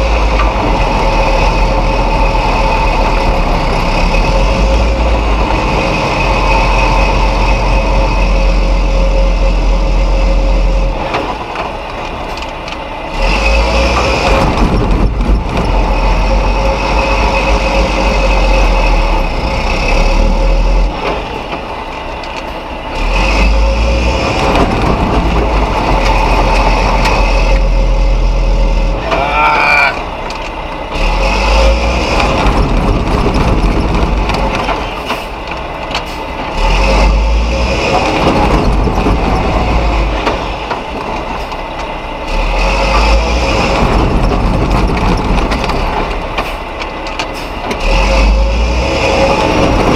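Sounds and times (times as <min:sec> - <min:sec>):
truck diesel engine revving: 0:00.0 - 0:49.9.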